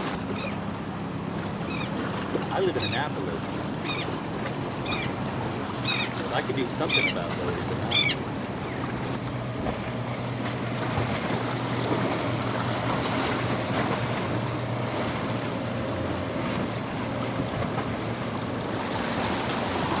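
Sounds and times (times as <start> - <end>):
boat engine running: 0.0 - 20.0
waves breaking: 0.0 - 20.0.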